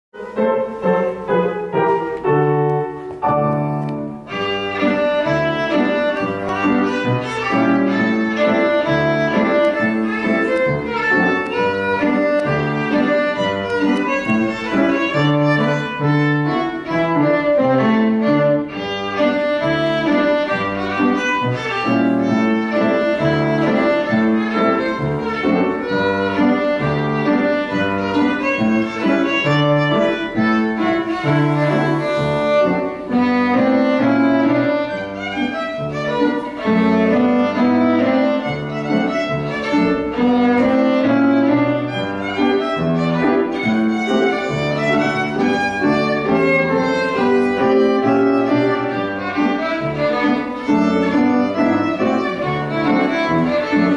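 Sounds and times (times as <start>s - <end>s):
grand piano accompaniment: 0.1s - 53.9s
violin playing quick notes: 0.2s - 53.9s.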